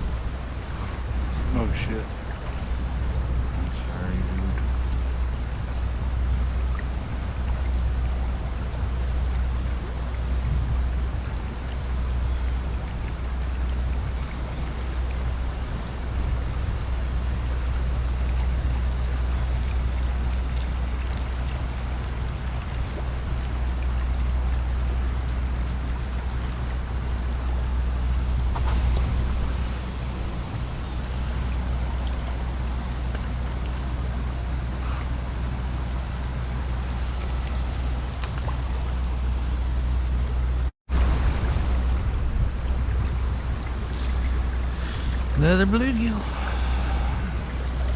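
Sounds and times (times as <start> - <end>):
water rushing from a spillway: 0.0 - 40.3, 40.9 - 47.9
deep low rumble: 0.0 - 47.9.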